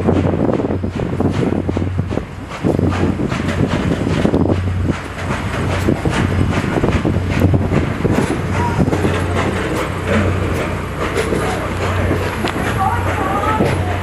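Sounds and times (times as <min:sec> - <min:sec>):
train rumbling on track: 0:00.0 - 0:14.0
wheels clicking over rails: 0:00.0 - 0:14.0.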